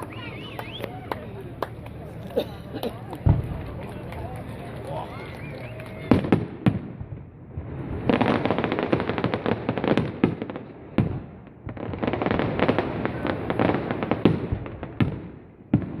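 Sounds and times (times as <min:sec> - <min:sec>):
firework bangs: 0:03.0 - 0:16.0
rapid firework crackling: 0:03.0 - 0:16.0.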